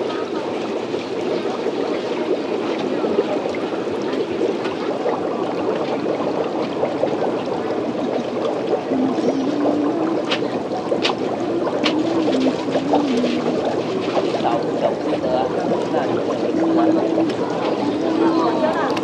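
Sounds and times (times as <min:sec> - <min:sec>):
aerated water bubbling: 0:00.0 - 0:19.0.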